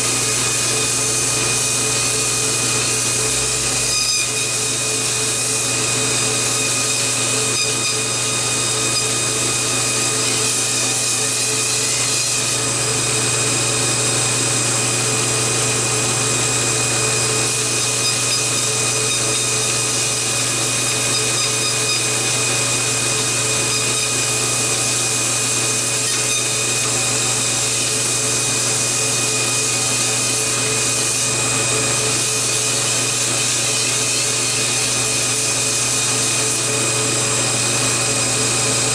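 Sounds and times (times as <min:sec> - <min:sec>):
belt grinder sanding: 0:00.0 - 0:12.6, 0:17.4 - 0:36.8.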